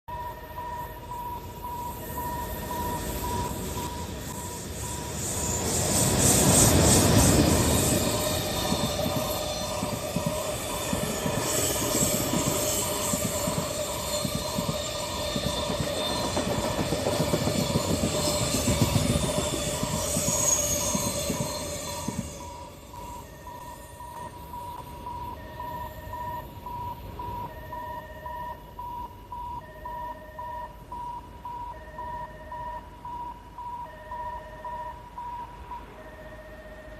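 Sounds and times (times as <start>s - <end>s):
train wheels rumbling and squealing: 0.1s - 30.8s
trackside alarm beeping: 0.1s - 36.9s.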